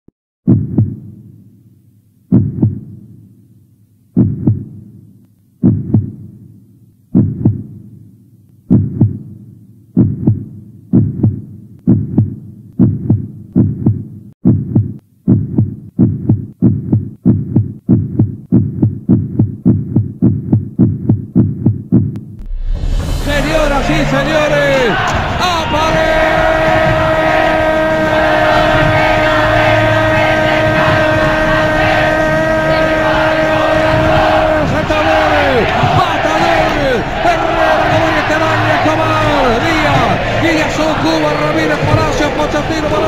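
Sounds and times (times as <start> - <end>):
deep heartbeat-like thumps: 0.4 - 1.1, 2.3 - 3.0, 4.2 - 4.8, 5.6 - 6.3, 7.1 - 7.8, 8.7 - 9.3, 10.0 - 43.0.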